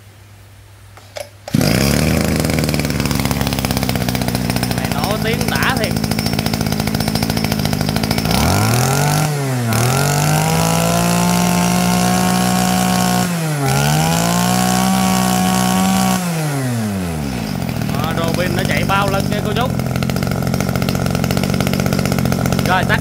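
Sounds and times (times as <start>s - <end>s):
brush cutter engine revving: 1.4s - 23.0s.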